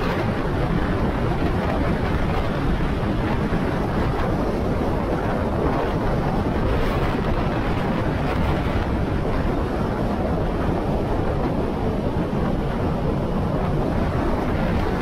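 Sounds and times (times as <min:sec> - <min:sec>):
road noise: 0:00.0 - 0:15.0
wind rushing over microphone: 0:00.0 - 0:15.0.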